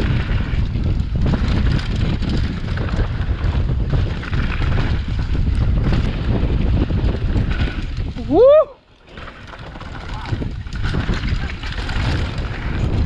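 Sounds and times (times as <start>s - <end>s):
mountain bike rattling on trail: 0.0s - 13.0s
wind rushing over microphone: 0.0s - 13.0s.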